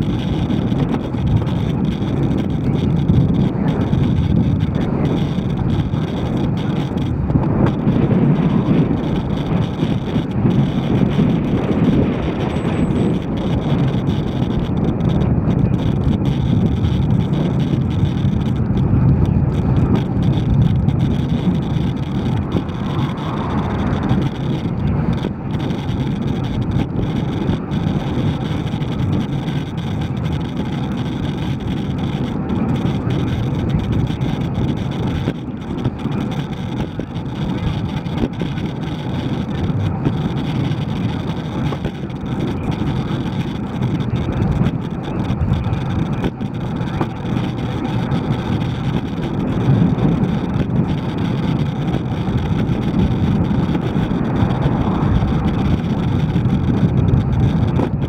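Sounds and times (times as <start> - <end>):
bicycle road noise: 0.0 - 58.0
motor traffic: 0.0 - 58.0
wind rush: 0.0 - 58.0.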